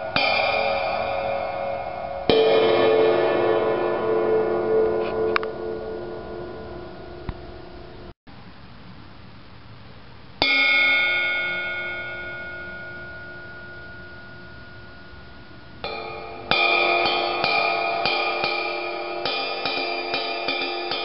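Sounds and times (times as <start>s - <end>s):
ride cymbal pattern: 0.0s - 8.1s, 10.4s - 21.0s
ride cymbal ringing: 0.0s - 8.1s, 10.4s - 21.0s.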